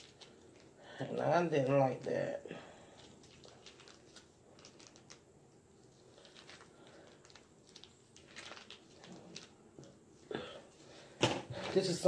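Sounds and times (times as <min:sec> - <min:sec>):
plastic packet crackling: 0:00.0 - 0:10.0.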